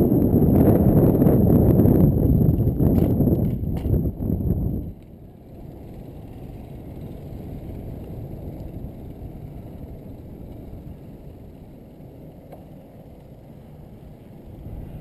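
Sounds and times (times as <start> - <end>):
rolling road noise: 0.0 - 15.0
wind rumble: 0.0 - 15.0.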